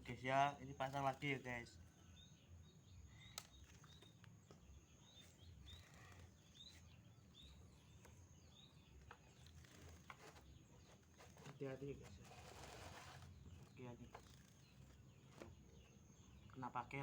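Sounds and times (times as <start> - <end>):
small bird chirps: 0.0 - 17.0.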